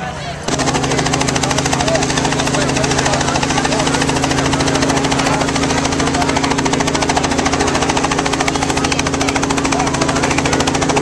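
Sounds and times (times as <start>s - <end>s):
helicopter engine hum: 0.4s - 11.0s
helicopter rotor chopping: 0.4s - 11.0s.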